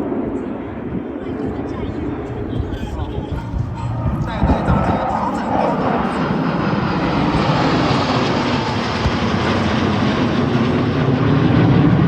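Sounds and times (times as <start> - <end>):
jet aircraft engine roar: 0.0 - 12.0.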